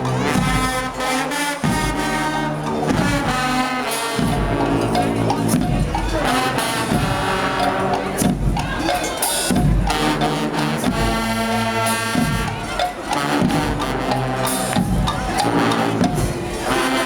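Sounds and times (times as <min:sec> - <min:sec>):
bass drum: 0:00.0 - 0:01.0, 0:01.6 - 0:03.6, 0:04.2 - 0:16.9
brass marching band: 0:00.0 - 0:17.0.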